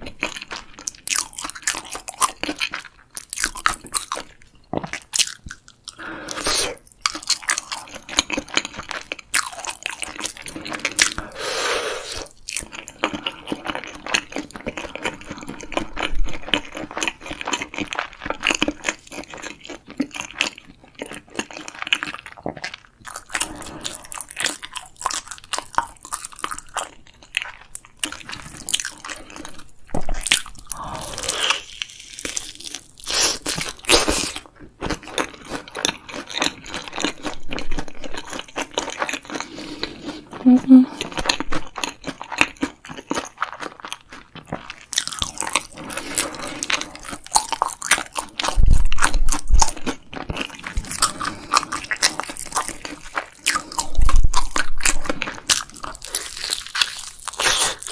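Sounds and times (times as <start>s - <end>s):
person crunching and chewing food: 0.0s - 57.9s.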